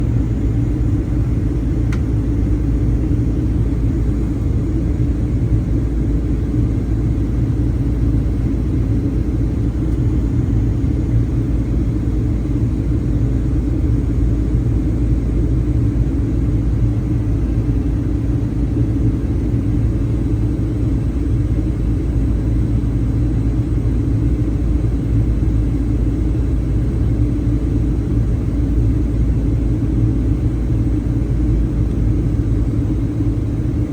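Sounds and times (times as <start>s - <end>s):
airplane engine hum: 0.0s - 33.9s.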